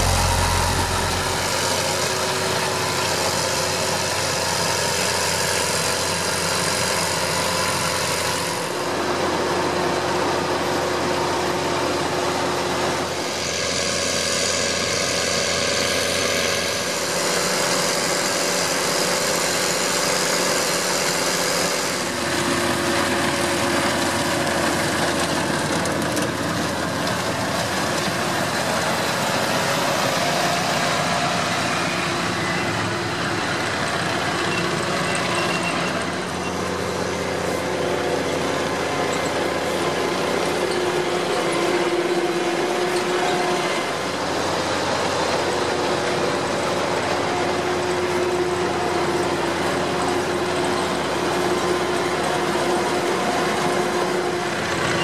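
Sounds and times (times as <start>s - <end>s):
harvesting machinery working: 0.0s - 55.0s
tractor engine under load: 0.0s - 55.0s.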